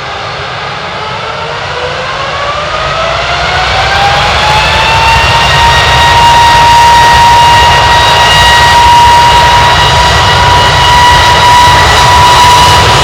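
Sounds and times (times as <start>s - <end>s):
jet engines at take-off power: 0.0s - 13.0s.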